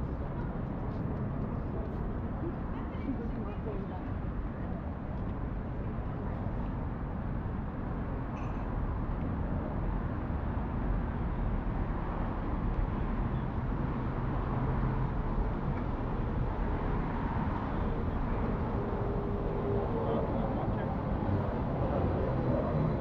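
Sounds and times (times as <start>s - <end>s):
low rumble of passing traffic: 0.0s - 23.0s.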